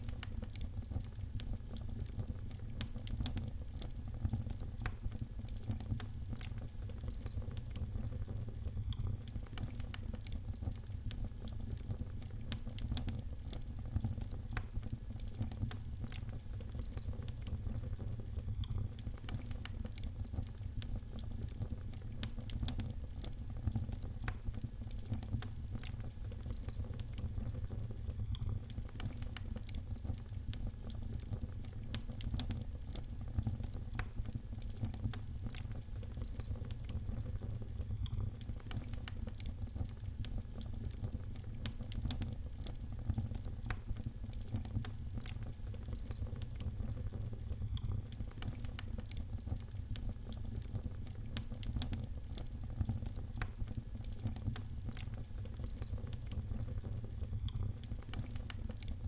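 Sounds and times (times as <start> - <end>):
fireplace fire crackling: 0.0 - 59.0
low fire rumble: 0.0 - 59.0.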